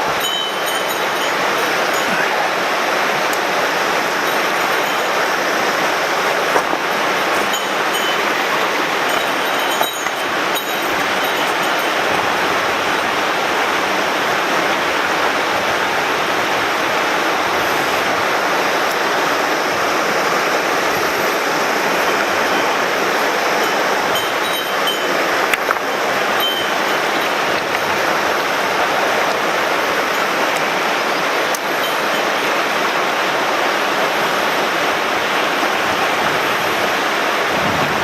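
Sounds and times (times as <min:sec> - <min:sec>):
water rushing over rocks: 0:00.0 - 0:38.0.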